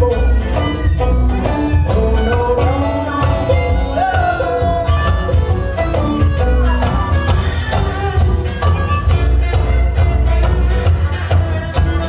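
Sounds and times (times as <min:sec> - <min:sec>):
acoustic guitar: 0:00.0 - 0:12.0
banjo: 0:00.0 - 0:12.0
drum beat: 0:00.0 - 0:12.0
fiddle: 0:00.0 - 0:12.0.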